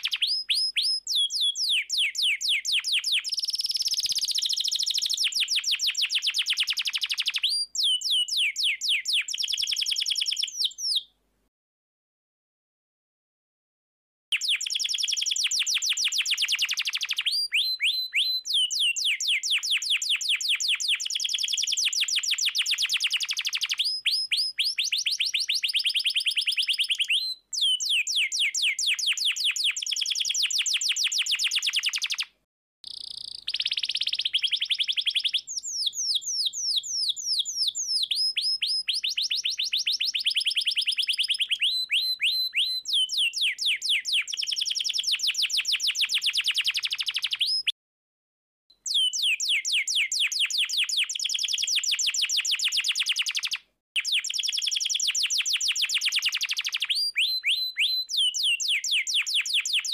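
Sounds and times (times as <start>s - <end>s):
canary singing trills: 0.0s - 11.1s, 14.3s - 47.8s, 48.8s - 59.9s.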